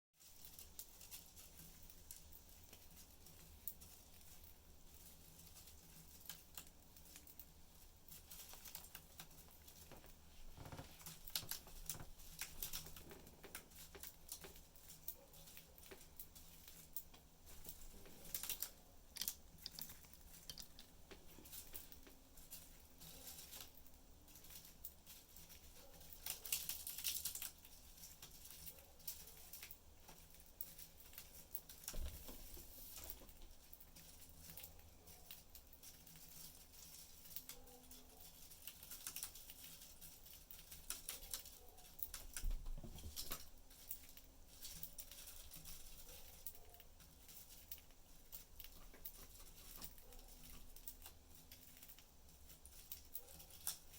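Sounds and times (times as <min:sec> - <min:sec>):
budgies clicking in cage: 0:08.4 - 0:53.9.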